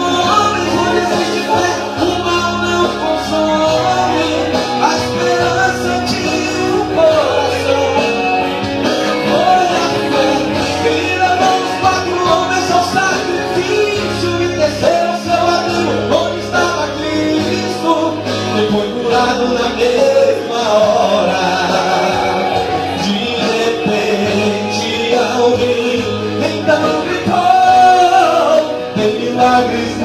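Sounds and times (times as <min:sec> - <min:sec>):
instrumental backing music: 0:00.0 - 0:30.0
man singing into a microphone: 0:00.0 - 0:30.0.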